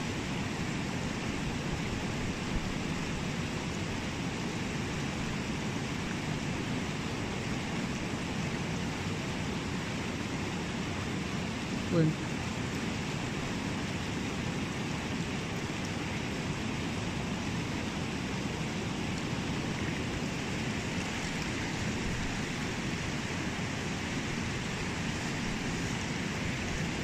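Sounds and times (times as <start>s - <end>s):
river rushing over rocks: 0.0s - 27.0s.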